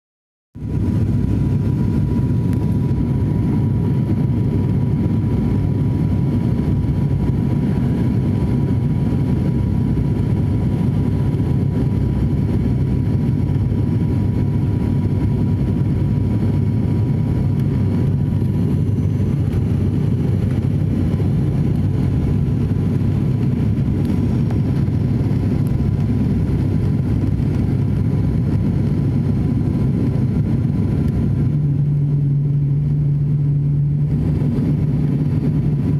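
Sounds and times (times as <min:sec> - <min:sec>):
aeroplane low rumble: 0:00.6 - 0:35.9.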